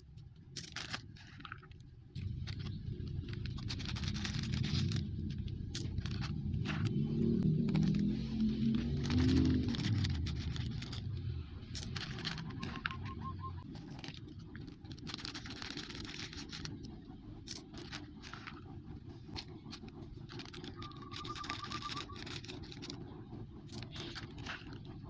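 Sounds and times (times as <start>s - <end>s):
steady low rumble: 0.0s - 25.0s
plastic snack packets crinkling: 0.4s - 18.7s, 19.3s - 25.0s.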